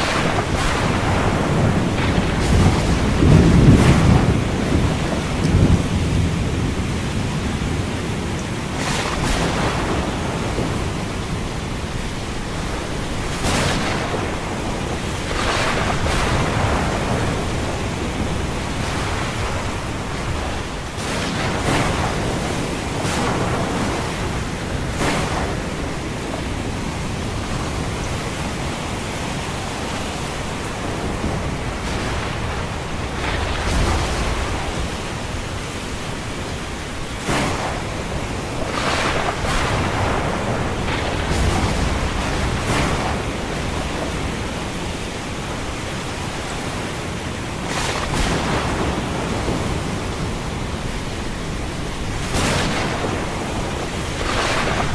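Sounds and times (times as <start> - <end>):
ocean surf washing: 0.0 - 54.9
waves breaking: 0.0 - 54.9.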